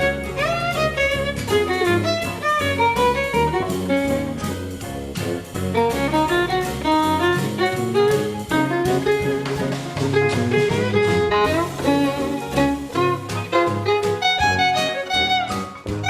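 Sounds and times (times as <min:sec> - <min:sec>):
upbeat instrumental with fiddle melody: 0:00.0 - 0:16.0.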